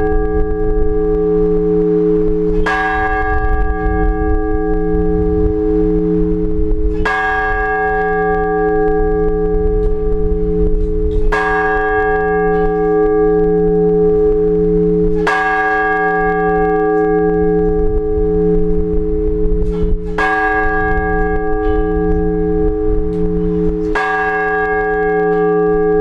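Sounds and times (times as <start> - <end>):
large church bell tolling: 0.0 - 26.0.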